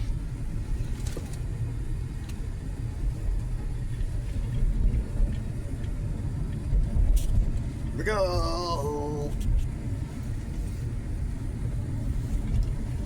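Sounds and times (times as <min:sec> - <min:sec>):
car rumble inside cabin: 0:00.0 - 0:13.0.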